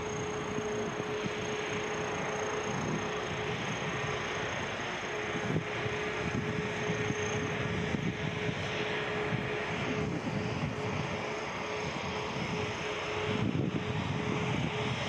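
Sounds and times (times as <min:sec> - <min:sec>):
jet engines at taxi thrust: 0:00.0 - 0:15.0.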